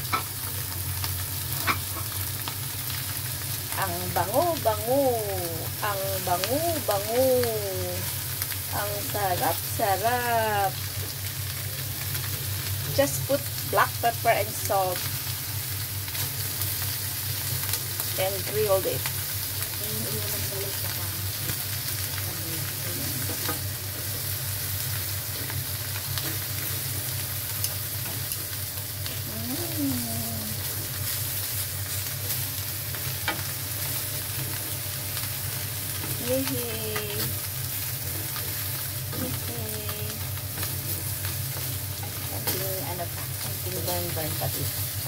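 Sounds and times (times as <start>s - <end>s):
prawns sizzling on grill pan: 0.0s - 45.0s.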